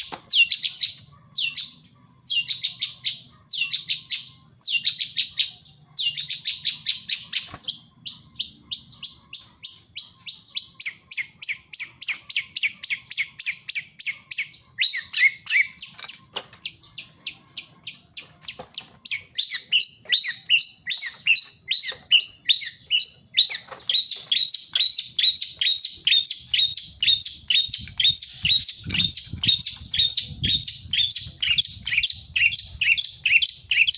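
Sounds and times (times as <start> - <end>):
songbird chattering trills: 0.0 - 33.9.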